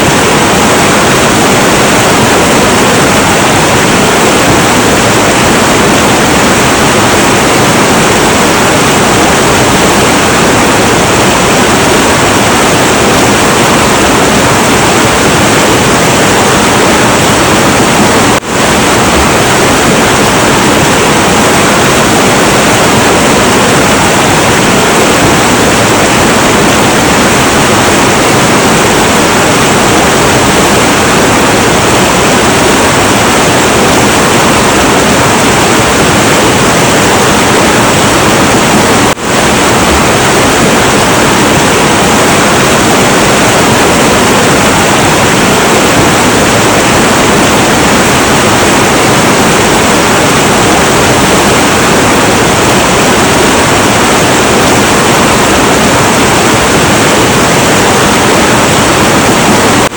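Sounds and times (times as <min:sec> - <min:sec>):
turbulent river water rushing: 0:00.0 - 0:59.9.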